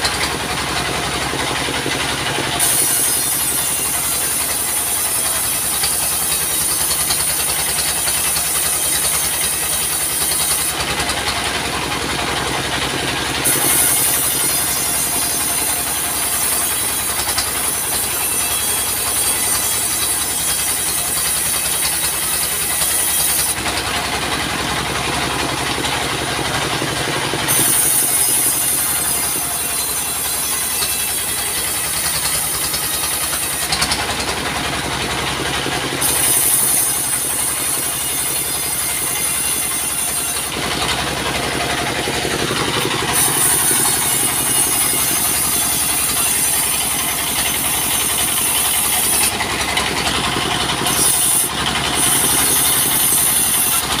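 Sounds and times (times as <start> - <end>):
bandsaw sawmill cutting log: 0.0 - 54.0.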